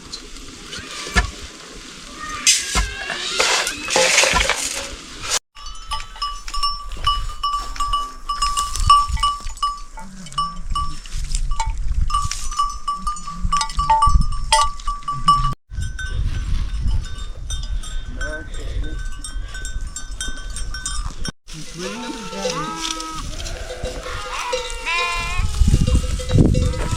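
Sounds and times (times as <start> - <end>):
livestock neck bells clinking: 2.2 - 26.9.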